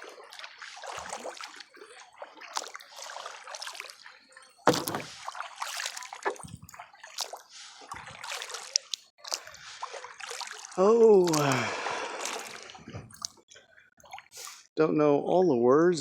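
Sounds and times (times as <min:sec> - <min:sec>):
paddle splashing water: 0:00.0 - 0:13.4.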